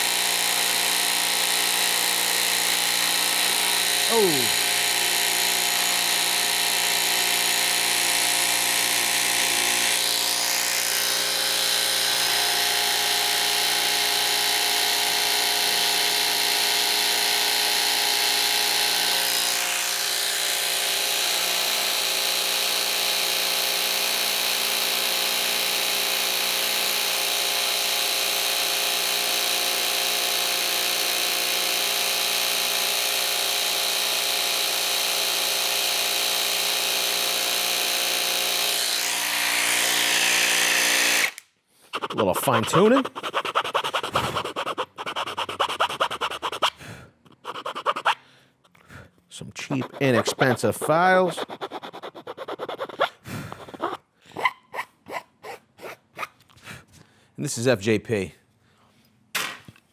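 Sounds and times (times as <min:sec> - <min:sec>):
jigsaw cutting wood: 0:00.0 - 0:48.2, 0:49.6 - 0:54.0.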